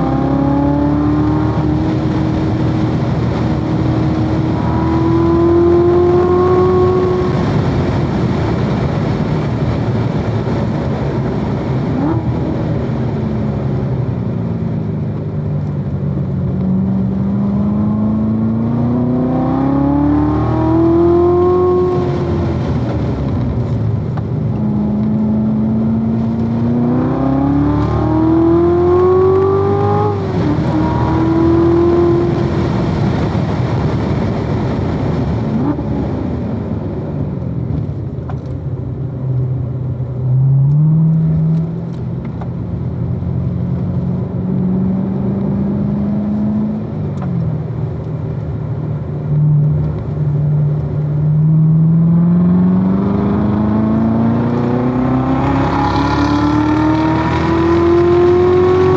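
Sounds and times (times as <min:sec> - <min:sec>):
sports car engine revving: 0:00.0 - 0:08.7, 0:15.2 - 0:36.2, 0:38.2 - 0:58.9.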